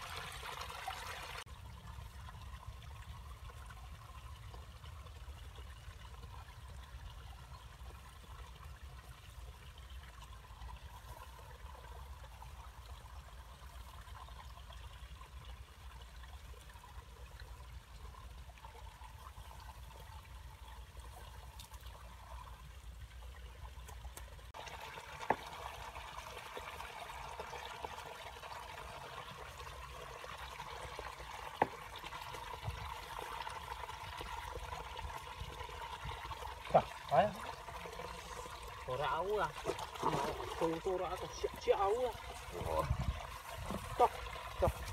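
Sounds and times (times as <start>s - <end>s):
water trickling: 0.0s - 44.9s.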